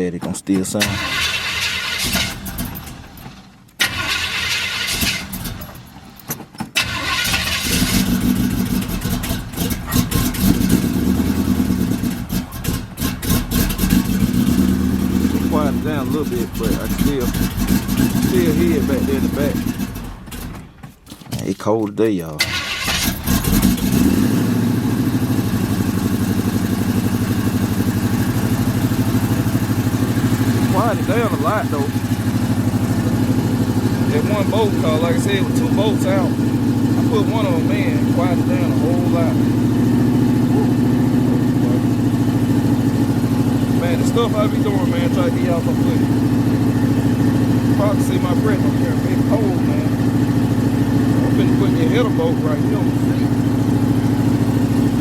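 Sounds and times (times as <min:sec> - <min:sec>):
car engine starting and running: 0:00.0 - 0:55.0
exhaust leak ticking: 0:00.6 - 0:20.8, 0:21.4 - 0:55.0.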